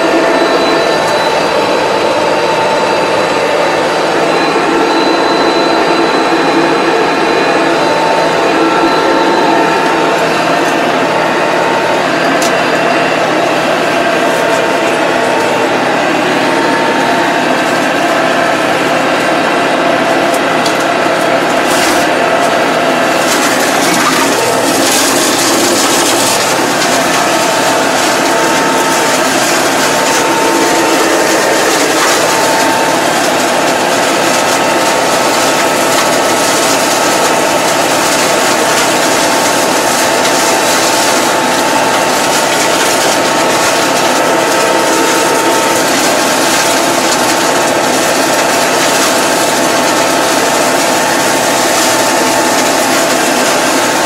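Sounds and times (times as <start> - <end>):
mower cutting grass: 0.0 - 54.0
steady mechanical whine: 0.0 - 54.0
tractor engine under load: 0.0 - 54.0.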